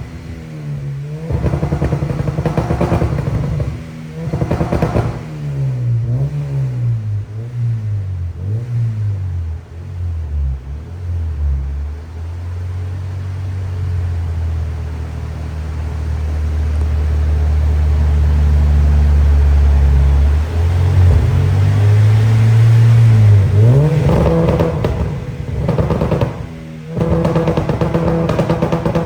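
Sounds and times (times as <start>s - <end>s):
car engine revving on dyno: 0.0s - 12.4s, 17.0s - 29.0s.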